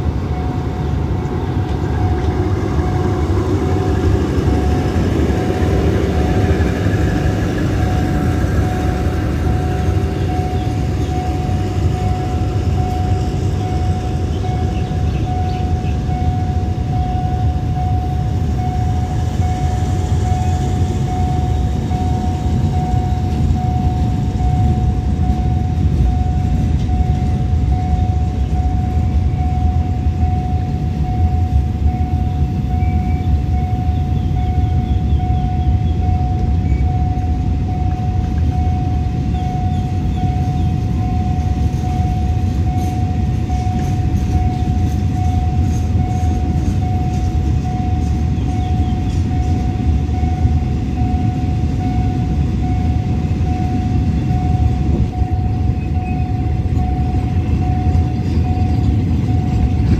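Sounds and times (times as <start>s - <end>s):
steady high-pitched tone: 0.0s - 59.9s
train wheels rumbling on rails: 0.0s - 59.9s.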